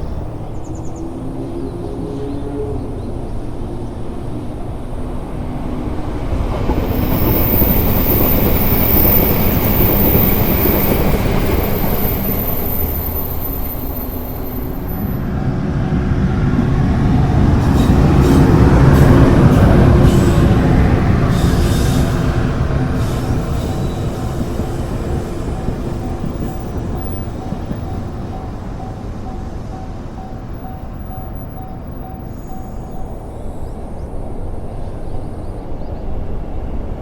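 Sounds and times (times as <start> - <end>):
rush of train wheels on rails: 3.6 - 33.3.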